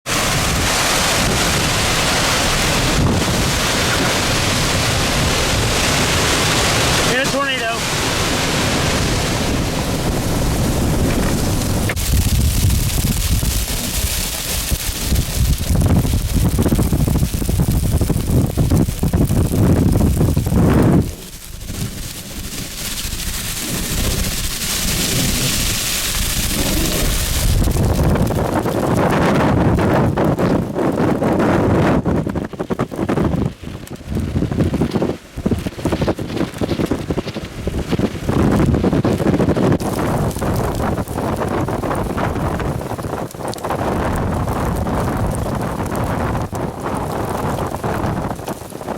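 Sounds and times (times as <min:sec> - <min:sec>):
wind gusts on microphone: 0:00.0 - 0:48.9.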